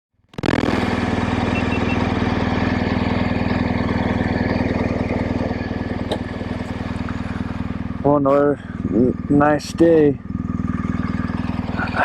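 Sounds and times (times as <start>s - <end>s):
vehicle engine running steadily: 0.3s - 12.0s.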